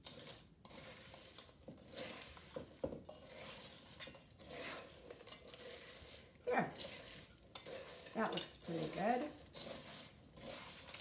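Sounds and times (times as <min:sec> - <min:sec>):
spoon stirring cereal: 0:00.0 - 0:11.0.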